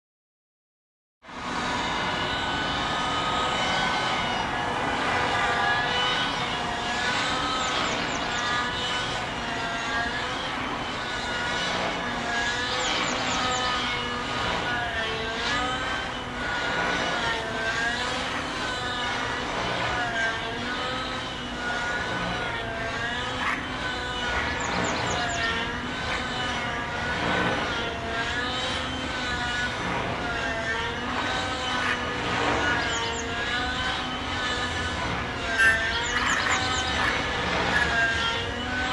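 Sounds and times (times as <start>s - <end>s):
model helicopter engine and rotors: 1.3s - 38.9s.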